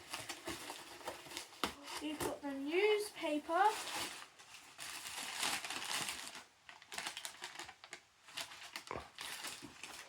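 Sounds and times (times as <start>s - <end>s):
newspaper crumpling and rustling: 0.0s - 10.0s.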